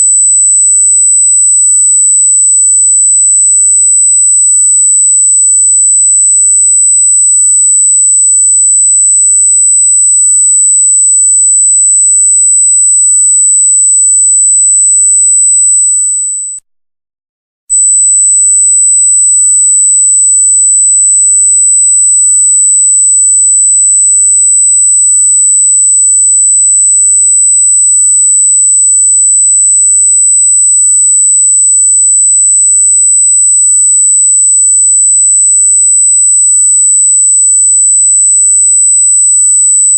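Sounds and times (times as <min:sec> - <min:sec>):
high-pitched electronic sine tone: 0:00.0 - 0:16.6, 0:17.7 - 0:39.9.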